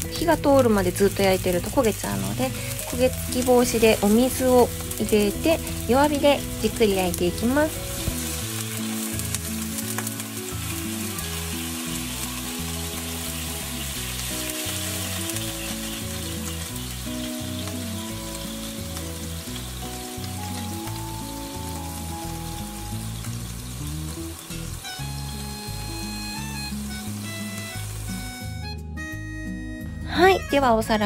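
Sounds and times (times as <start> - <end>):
eggs sizzling in a pan: 0.0 - 31.0
slow background music: 0.0 - 31.0.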